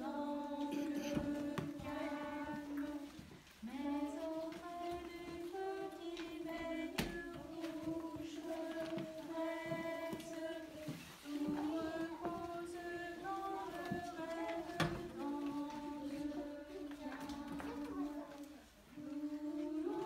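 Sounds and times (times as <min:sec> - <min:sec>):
person singing slowly: 0:00.0 - 0:20.0.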